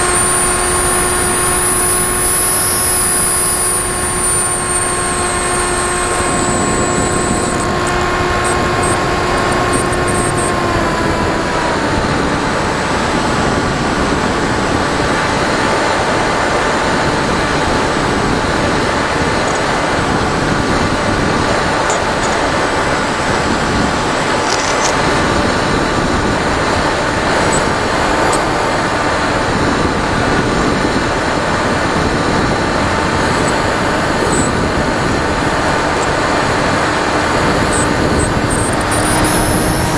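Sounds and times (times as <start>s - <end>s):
model airplane motor whine: 0.0s - 39.9s
wind rushing over airframe: 0.0s - 39.9s.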